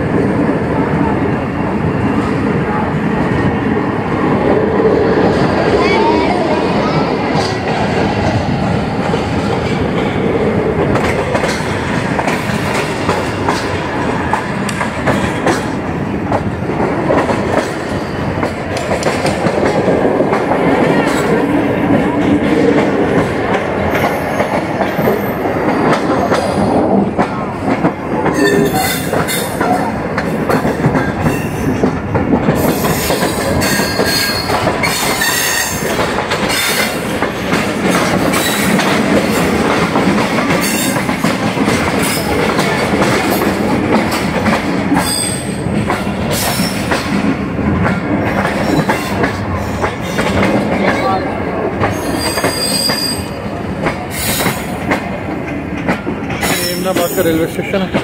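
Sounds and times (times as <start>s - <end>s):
train wheels rumbling over rails: 0.0s - 58.0s.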